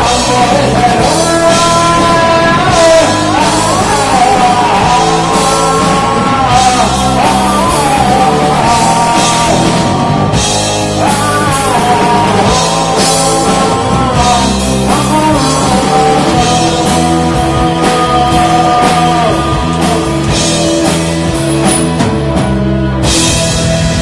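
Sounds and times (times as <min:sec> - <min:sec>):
person singing lead vocals: 0:00.0 - 0:22.4
rock band playing: 0:00.0 - 0:24.0.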